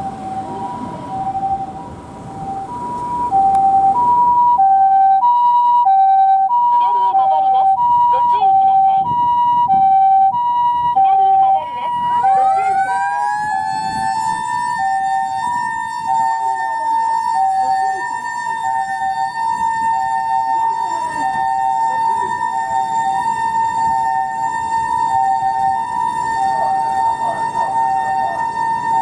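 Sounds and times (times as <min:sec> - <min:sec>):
mechanical motor siren wailing: 0:00.0 - 0:29.0
two-tone ambulance siren: 0:00.0 - 0:29.0.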